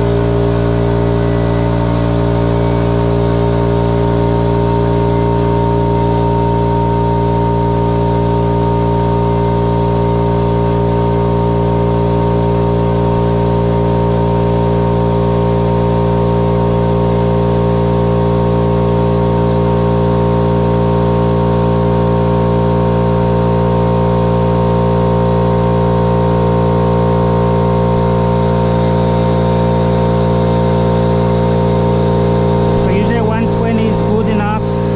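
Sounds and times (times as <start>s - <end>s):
air compressor humming: 0.0s - 34.9s.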